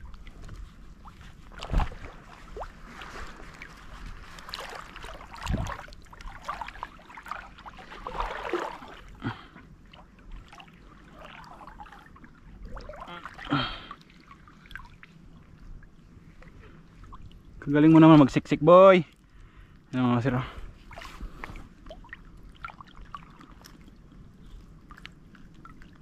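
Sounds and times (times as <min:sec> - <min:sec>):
water splashing and trickling: 0:00.0 - 0:26.0.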